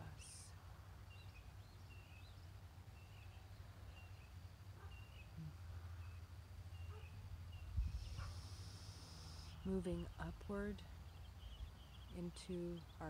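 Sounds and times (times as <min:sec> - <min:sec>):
faint bird chirps: 0:00.0 - 0:13.0
low steady hum: 0:00.0 - 0:13.0.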